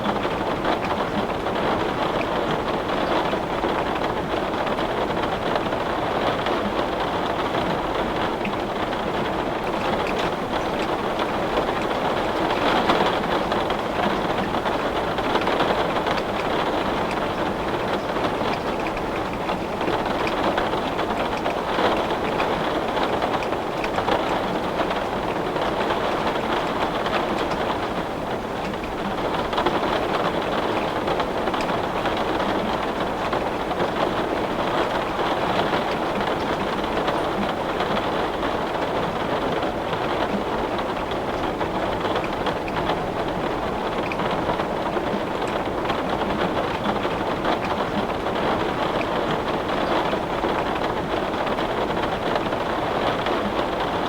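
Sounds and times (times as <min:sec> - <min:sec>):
heavy rain on a window pane: 0:00.0 - 0:54.0.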